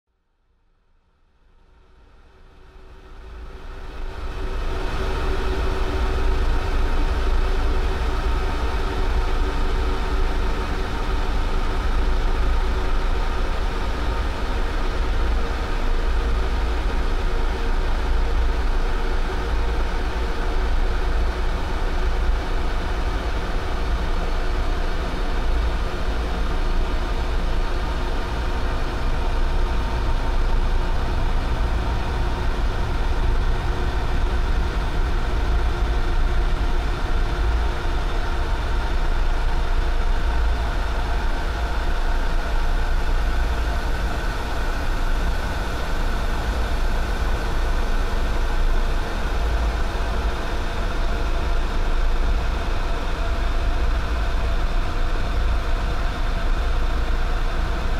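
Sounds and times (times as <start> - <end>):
low rumble with droning tones: 2.8 - 57.9.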